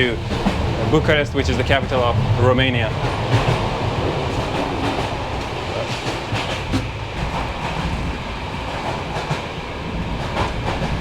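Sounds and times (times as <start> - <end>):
train rumble on rails: 0.0 - 11.0.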